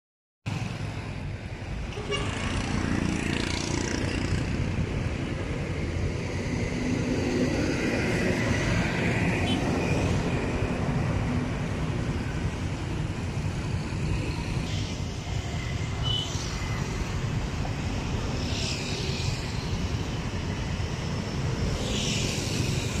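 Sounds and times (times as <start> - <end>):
road traffic noise: 0.5 - 23.0.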